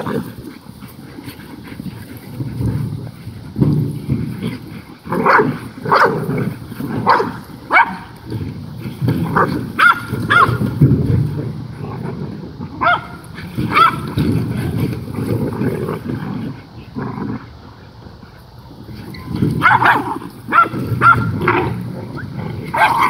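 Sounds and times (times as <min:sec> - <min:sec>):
dogs barking and yelping: 0:00.0 - 0:11.0, 0:12.6 - 0:16.0, 0:17.4 - 0:23.0.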